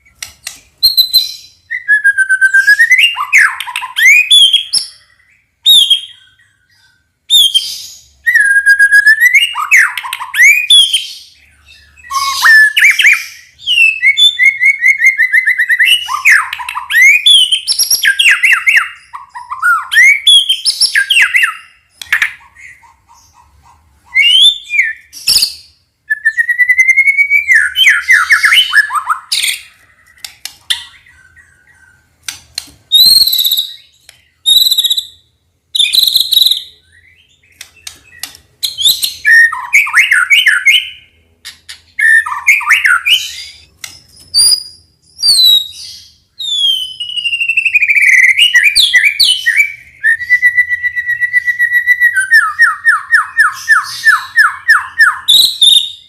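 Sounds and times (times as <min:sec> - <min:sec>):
bird singing whistles and trills: 0:00.0 - 0:23.4, 0:24.0 - 0:32.1, 0:32.9 - 0:41.2, 0:41.8 - 0:56.0.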